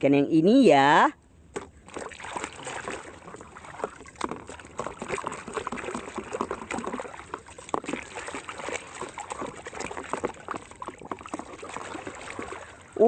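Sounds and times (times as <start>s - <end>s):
small splashes: 1.5s - 13.0s
water pouring and trickling: 1.8s - 13.0s.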